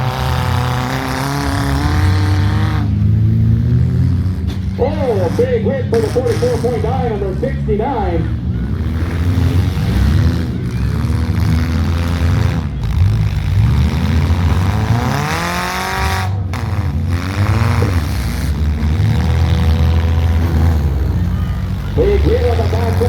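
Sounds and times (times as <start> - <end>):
car engines revving: 0.0 - 23.0.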